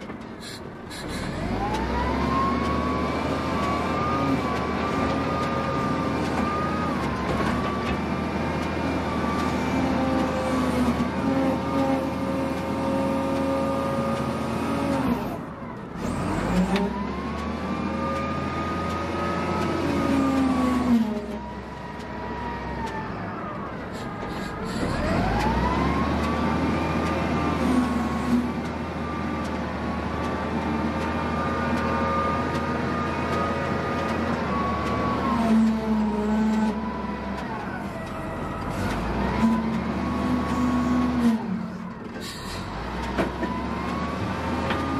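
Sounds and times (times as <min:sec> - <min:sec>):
heavy machinery diesel engine running: 0:00.0 - 0:44.9.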